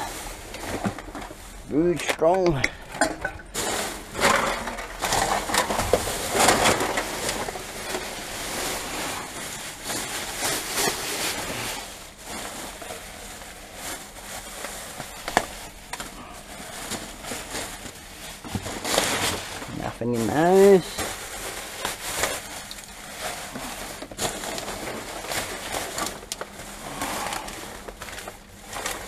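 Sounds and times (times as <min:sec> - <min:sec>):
plastic bags rustling and crinkling: 0:00.0 - 0:29.0.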